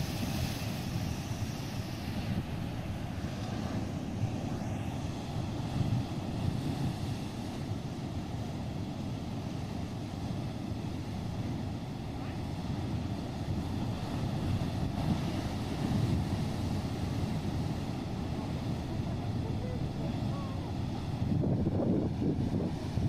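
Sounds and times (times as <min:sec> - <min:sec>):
steady low rumbling noise: 0:00.0 - 0:23.0.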